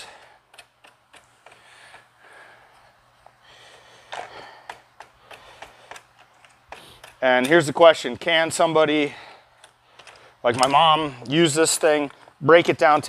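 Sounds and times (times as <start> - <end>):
soft breaths: 0.0 - 8.0, 8.6 - 12.4.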